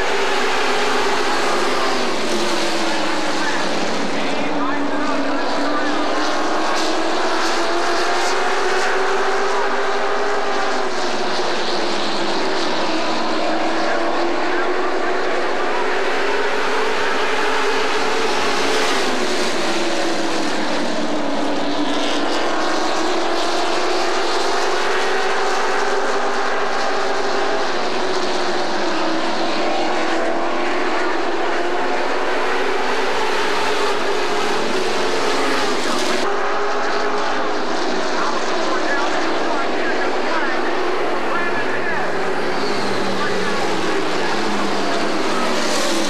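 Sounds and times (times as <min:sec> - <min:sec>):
race truck engines: 0:00.0 - 0:46.0.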